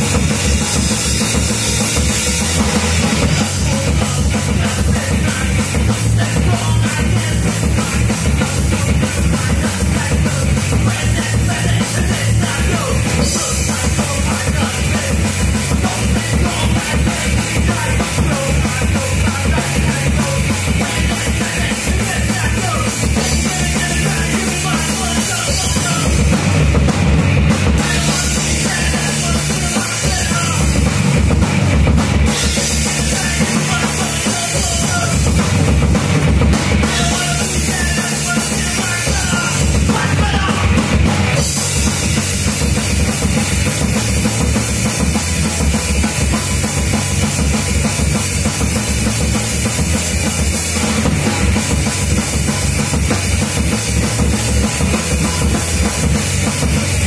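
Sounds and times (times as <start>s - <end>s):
driving drum kit beat: 0.0s - 57.0s
electric guitars: 0.0s - 57.0s.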